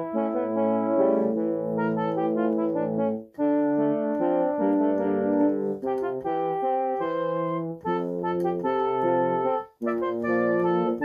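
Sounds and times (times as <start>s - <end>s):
keyboard playing brass chords: 0.0s - 11.0s.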